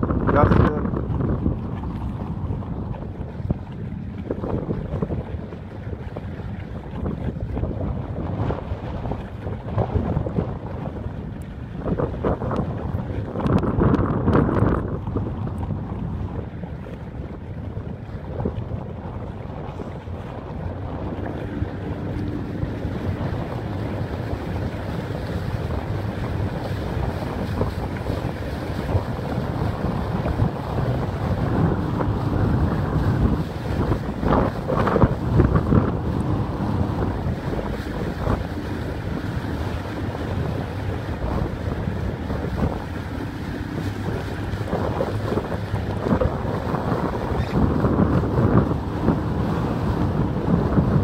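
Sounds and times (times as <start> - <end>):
steady low rumble: 0.0 - 51.0
water sloshing: 0.0 - 51.0
wind buffeting microphone: 0.0 - 51.0.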